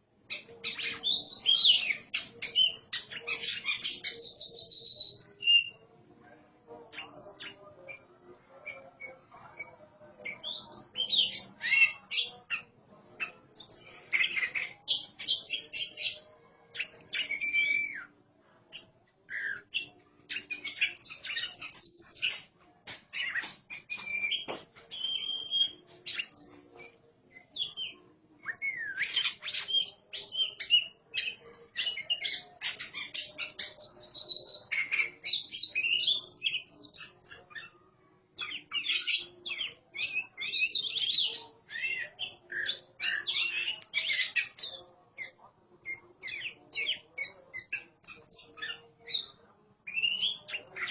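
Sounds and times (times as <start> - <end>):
birds singing: 0.0 - 5.9, 6.9 - 22.5, 23.1 - 50.9.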